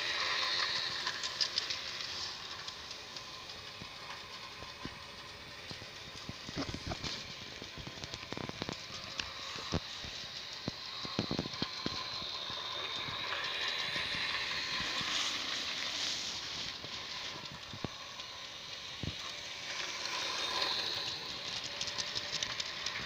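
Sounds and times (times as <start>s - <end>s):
electric motor whirr and whine: 0.0s - 23.0s
wheels clicking on rails: 0.0s - 23.0s.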